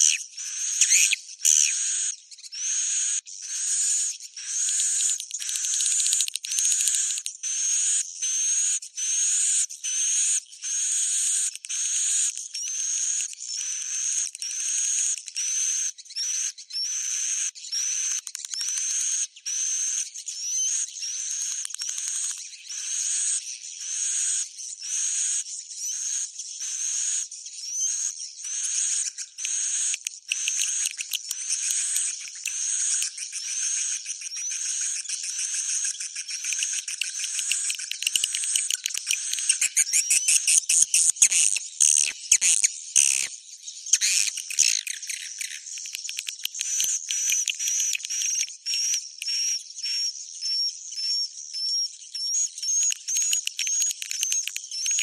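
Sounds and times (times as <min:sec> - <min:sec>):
recorded bird twittering chirp: 0:00.0 - 0:55.0.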